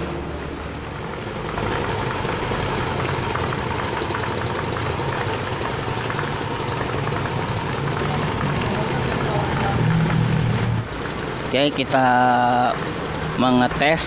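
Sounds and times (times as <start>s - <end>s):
air compressor humming: 0.0s - 14.0s.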